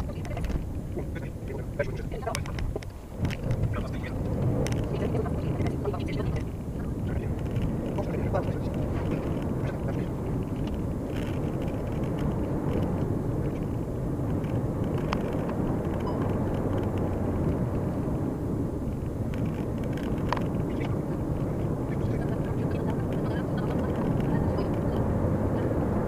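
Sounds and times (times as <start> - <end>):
car cabin rumble of tyres and engine: 0.0 - 26.0.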